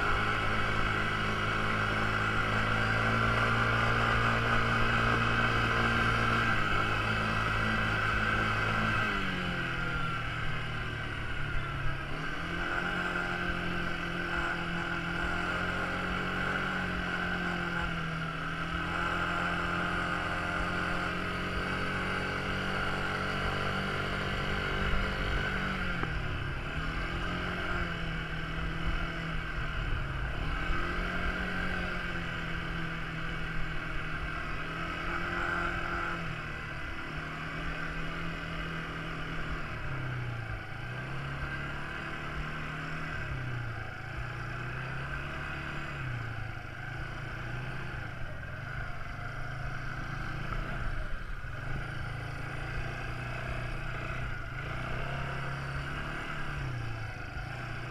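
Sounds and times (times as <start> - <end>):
quad bike engine revving: 0.0 - 57.9.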